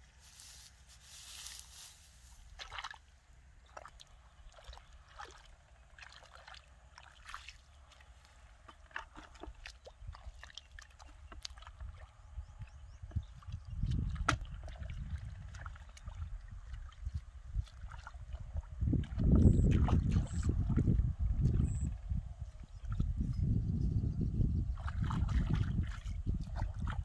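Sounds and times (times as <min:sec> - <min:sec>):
feet splashing in muddy water: 0:00.4 - 0:23.2, 0:24.7 - 0:27.0.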